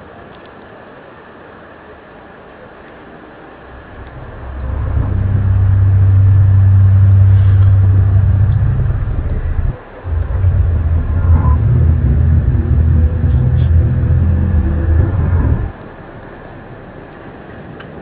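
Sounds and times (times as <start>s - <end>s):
loud low droning hum: 3.6s - 18.0s.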